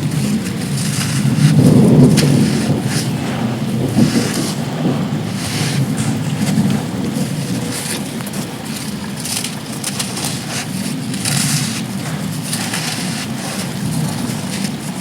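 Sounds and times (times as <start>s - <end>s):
dry sand crumbling: 0.0s - 15.0s
rain hiss: 0.0s - 15.0s
wind rumbling on microphone: 0.0s - 15.0s.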